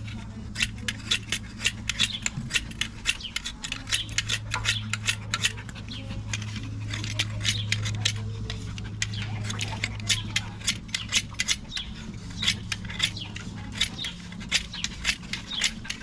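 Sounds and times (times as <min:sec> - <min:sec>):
knife scraping wood: 0:00.0 - 0:16.0
steady low hum: 0:00.0 - 0:16.0.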